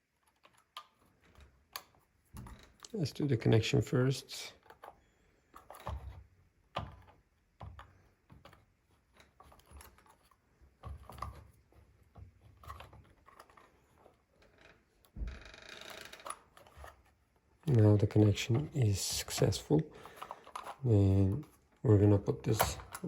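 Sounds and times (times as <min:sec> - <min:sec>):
small clicks and knocks of lock parts: 0:00.0 - 0:03.0, 0:04.6 - 0:21.8, 0:22.4 - 0:23.0.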